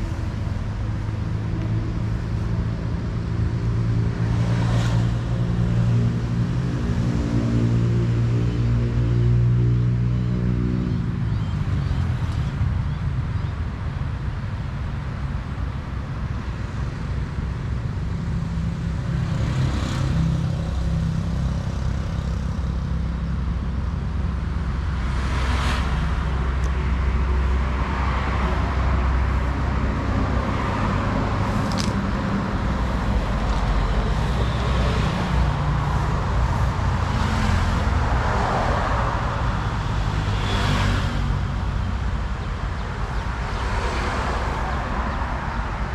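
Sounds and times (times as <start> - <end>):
road traffic noise: 0.0 - 45.9.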